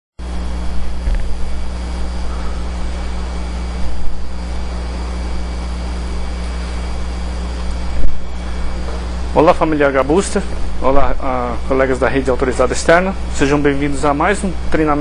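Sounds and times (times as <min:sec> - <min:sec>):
low constant hum: 0:00.2 - 0:15.0.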